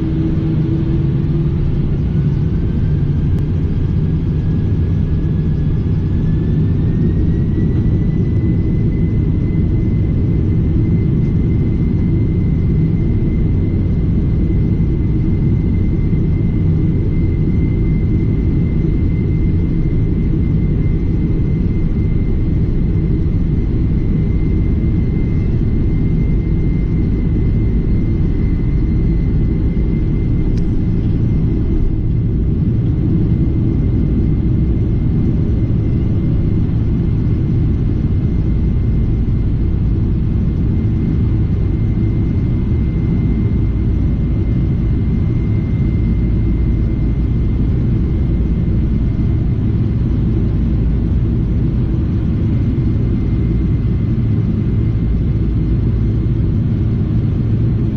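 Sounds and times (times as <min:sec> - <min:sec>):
jet engine fan whine: 0:00.0 - 0:57.9
jet engines rumbling: 0:00.0 - 0:57.9.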